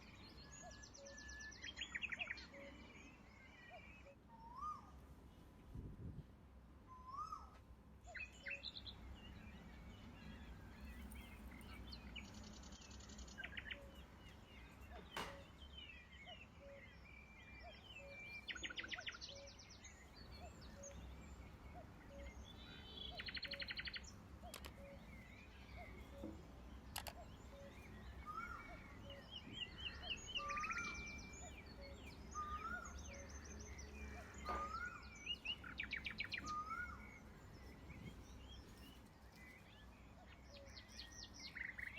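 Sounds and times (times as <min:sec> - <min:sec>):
birds chirping and trilling: 0:00.0 - 0:05.8, 0:06.9 - 0:41.9.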